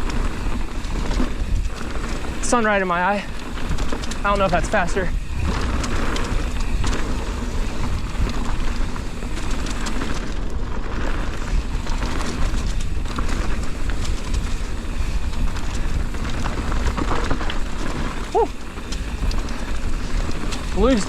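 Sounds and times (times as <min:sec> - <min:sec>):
wind on microphone: 0:00.0 - 0:02.4, 0:03.2 - 0:21.0
bike clicking and rattling: 0:00.0 - 0:21.0
bike tyres on dirt: 0:00.0 - 0:21.0.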